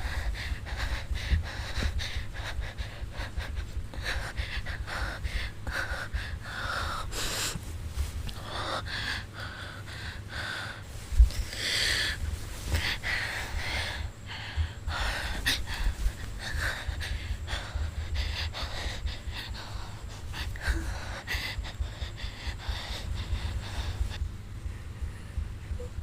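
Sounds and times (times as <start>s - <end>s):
woman breathing heavily: 0.0s - 26.0s.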